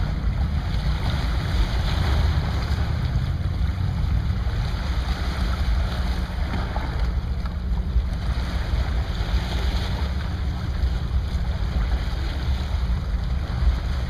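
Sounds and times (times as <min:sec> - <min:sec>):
water lapping: 0:00.0 - 0:14.0.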